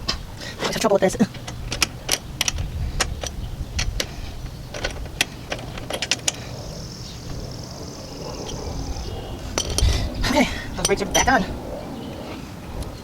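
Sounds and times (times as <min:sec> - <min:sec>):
low rumble: 0:01.3 - 0:13.0.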